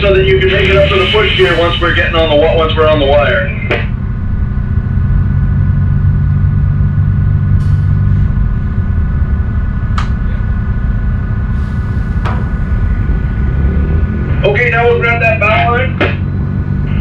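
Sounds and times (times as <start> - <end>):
diesel engines rumbling: 0.0 - 17.0
faint steady whine: 0.0 - 17.0.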